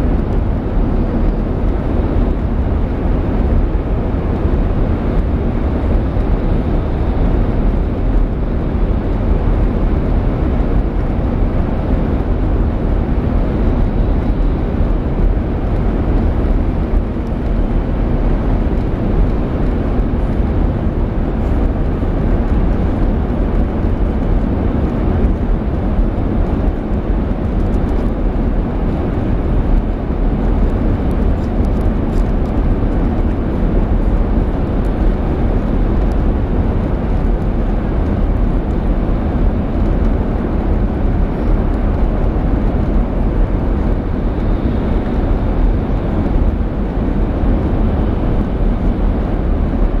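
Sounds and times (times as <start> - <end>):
train interior rumble: 0.0 - 50.0.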